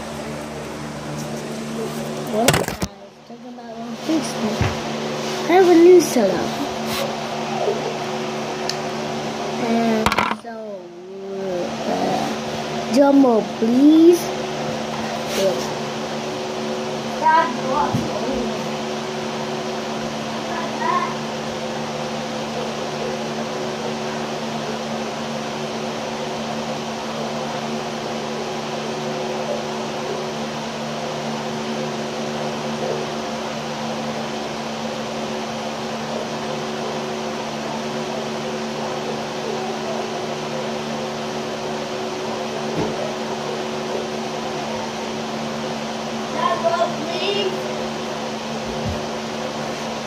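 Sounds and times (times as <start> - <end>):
motor humming and whirring: 0.0 - 50.0.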